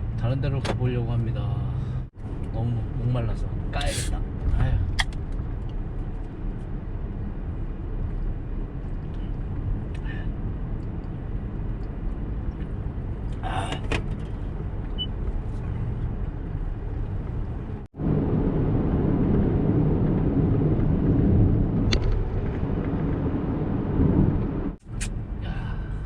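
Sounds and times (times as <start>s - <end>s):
road and engine rumble in car: 0.0s - 26.0s.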